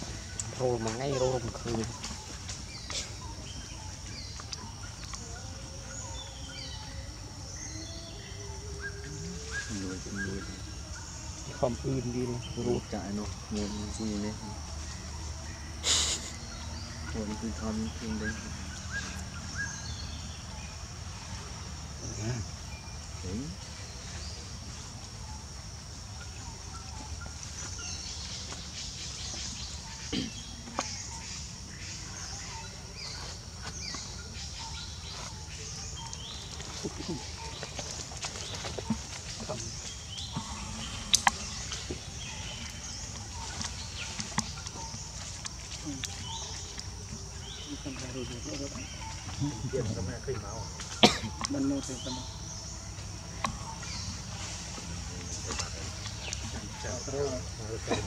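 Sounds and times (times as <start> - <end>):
birds chirping and trilling: 0.0 - 58.0
high insect drone: 0.0 - 58.0.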